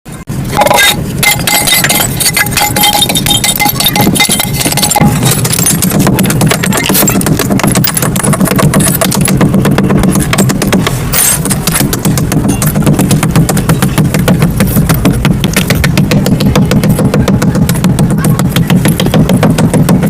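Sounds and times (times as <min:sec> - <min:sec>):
steady low rumble: 0:00.1 - 0:20.0.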